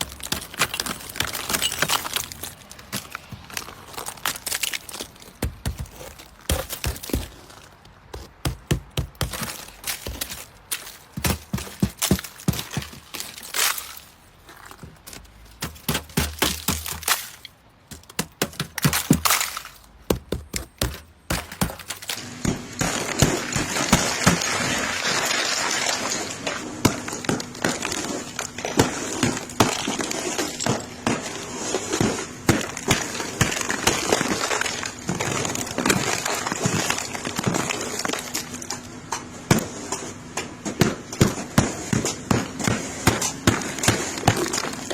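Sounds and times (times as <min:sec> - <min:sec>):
ice cracking and snapping: 0:00.0 - 0:22.2, 0:22.8 - 0:38.9, 0:43.0 - 0:44.9
dense crackling of ice: 0:00.0 - 0:39.7, 0:41.2 - 0:44.9.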